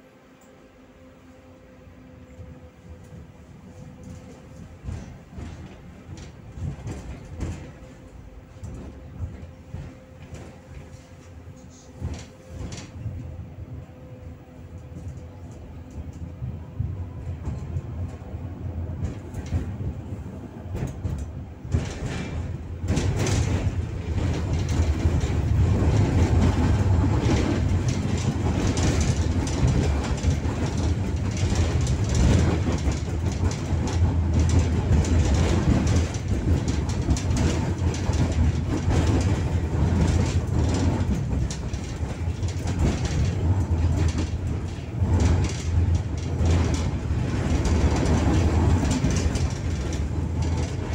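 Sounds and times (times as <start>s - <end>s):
tram wheels rumbling on rail: 0.0s - 50.9s
rail clicks: 2.2s - 50.9s.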